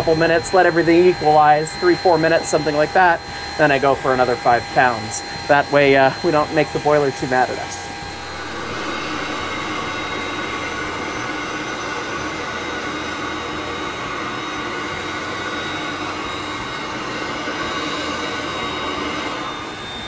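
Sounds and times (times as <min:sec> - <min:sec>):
steam locomotive hissing and humming: 0:00.0 - 0:20.0.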